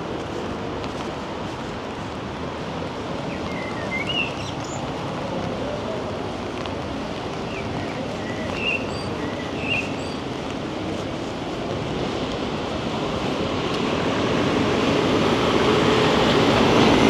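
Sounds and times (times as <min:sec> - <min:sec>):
outdoor city noise: 0:00.0 - 0:17.0.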